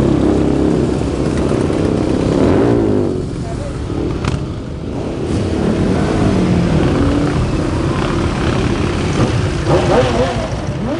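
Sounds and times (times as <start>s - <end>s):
motorcycles riding past: 0.0s - 10.9s.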